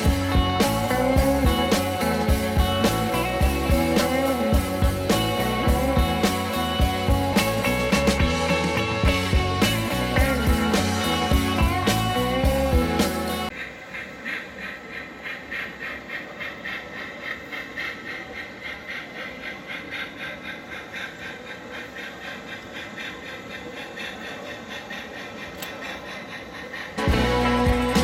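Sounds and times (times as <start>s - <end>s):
model train hissing chuffs: 0.0s - 28.0s.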